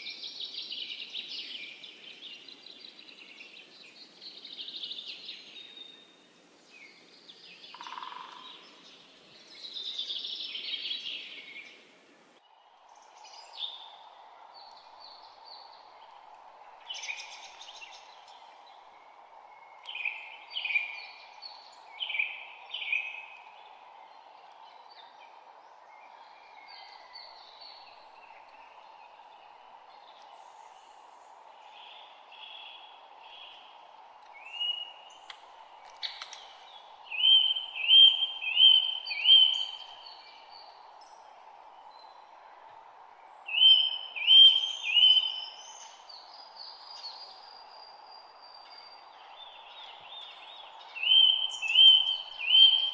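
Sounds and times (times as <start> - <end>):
faint hiss: 0.0 - 52.9
songbirds singing: 0.0 - 52.9.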